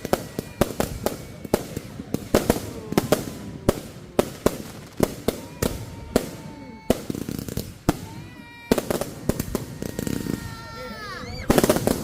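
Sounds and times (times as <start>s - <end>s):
faint fireworks whistle: 0.0s - 12.0s
fireworks bangs: 0.0s - 12.0s.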